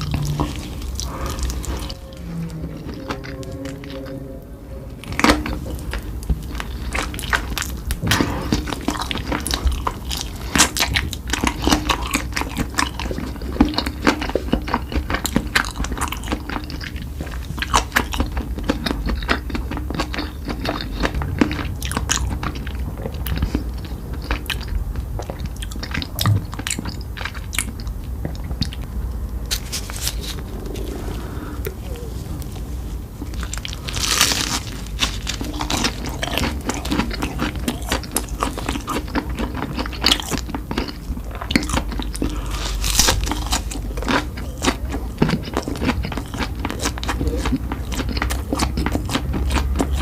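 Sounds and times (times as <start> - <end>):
person chewing crunchy food: 0.0 - 4.2, 5.1 - 32.1, 33.2 - 50.0.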